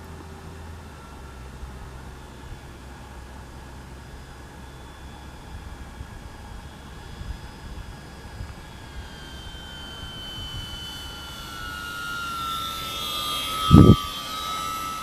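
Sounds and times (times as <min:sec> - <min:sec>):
model plane motor whining: 0:00.0 - 0:15.0.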